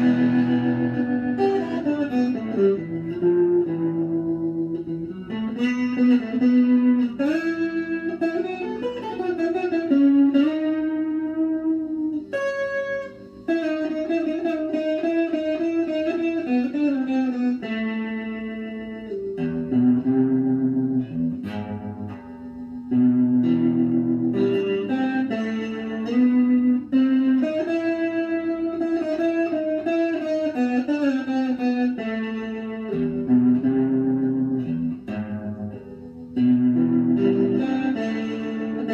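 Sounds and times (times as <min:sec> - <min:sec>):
electric guitar solo: 0:00.0 - 0:38.9.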